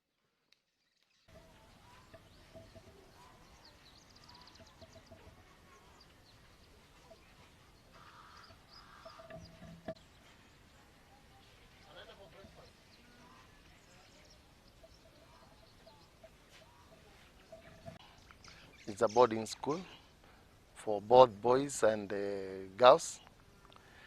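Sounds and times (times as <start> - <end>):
faint bird chirps: 0.1 - 20.4.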